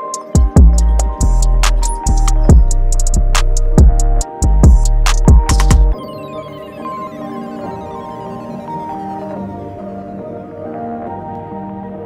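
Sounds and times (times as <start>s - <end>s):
ambient music of held notes: 0.0s - 12.0s.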